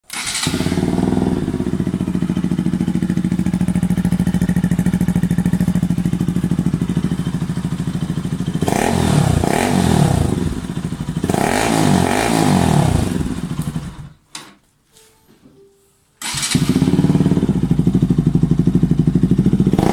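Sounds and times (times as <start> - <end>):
motorcycle engine idling and revving: 0.1 - 14.2, 16.2 - 19.9.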